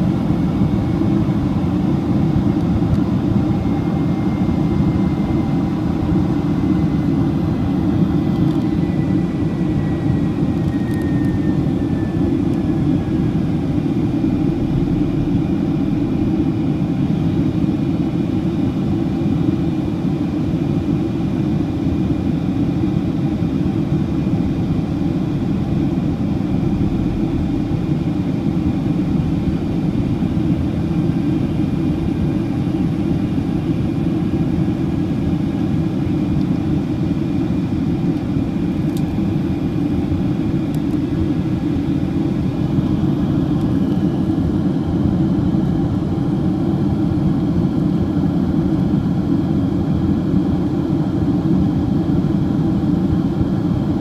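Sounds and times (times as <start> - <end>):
faint steady whine: 0.0 - 54.0
jet engine and airflow rumble: 0.0 - 54.0.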